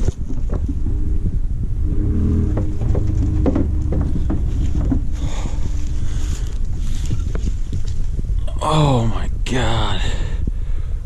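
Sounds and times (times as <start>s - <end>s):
truck engine rumbling: 0.0s - 11.0s
wind buffeting microphone: 0.0s - 11.0s.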